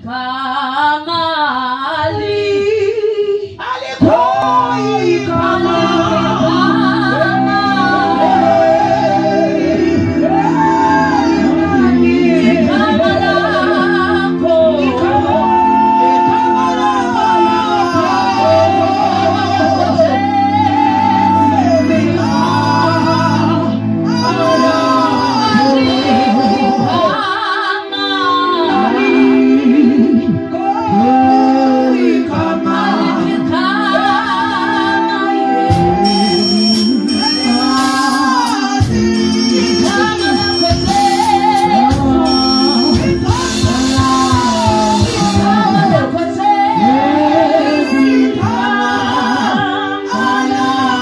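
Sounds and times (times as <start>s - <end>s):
women singing gospel: 0.0s - 51.0s
keyboard chords: 4.0s - 51.0s.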